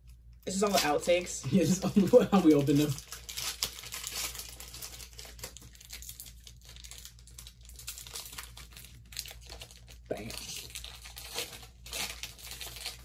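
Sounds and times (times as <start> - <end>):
foil wrappers crinkling: 0.0 - 13.0
wrapper tearing: 0.4 - 13.0.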